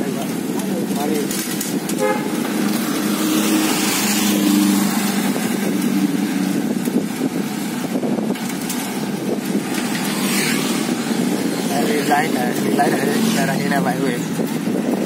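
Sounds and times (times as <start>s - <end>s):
road traffic noise: 0.0s - 15.0s
low engine hum: 1.7s - 15.0s.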